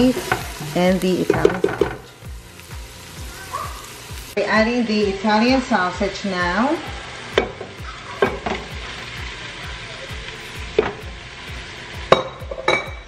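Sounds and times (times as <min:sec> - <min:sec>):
sausage sizzling in oil: 0:00.0 - 0:13.0.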